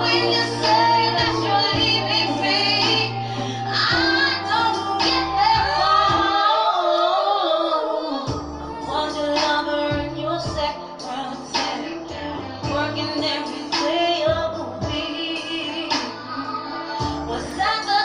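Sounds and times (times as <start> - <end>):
pop song with female vocal: 0.0 - 18.0.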